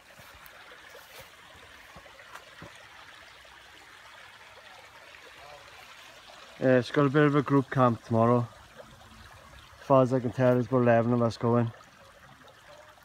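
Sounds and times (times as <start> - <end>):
stream running: 0.0 - 13.0.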